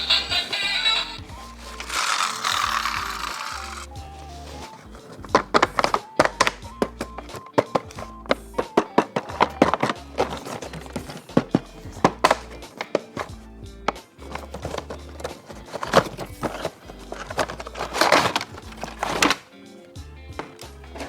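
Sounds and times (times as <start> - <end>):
plastic toys clicking and tapping: 0.0 - 3.9, 4.6 - 19.5, 20.3 - 21.0
crackling rustle: 0.0 - 21.0
background music with bass line: 2.8 - 21.0.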